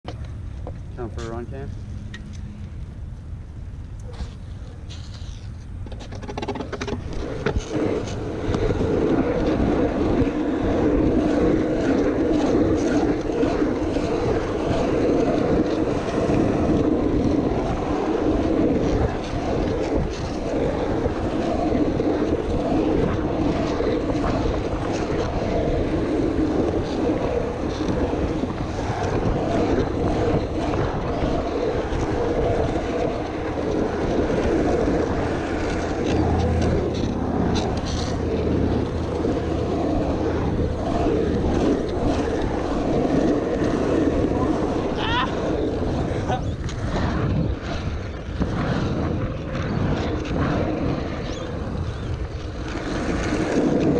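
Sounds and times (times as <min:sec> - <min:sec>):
wheels rolling over asphalt: 0:00.0 - 0:53.9
wind buffeting the microphone: 0:00.0 - 0:53.9.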